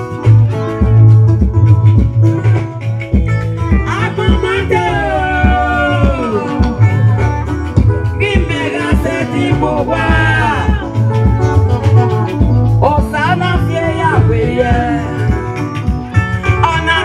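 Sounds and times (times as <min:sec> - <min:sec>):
drums: 0:00.0 - 0:17.0
heavy bass line: 0:00.0 - 0:17.0.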